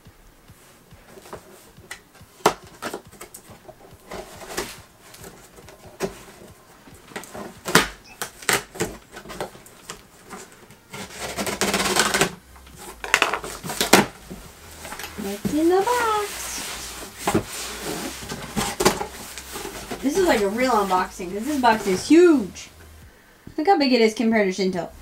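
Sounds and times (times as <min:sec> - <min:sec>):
cardboard box scraping: 0:00.7 - 0:22.7.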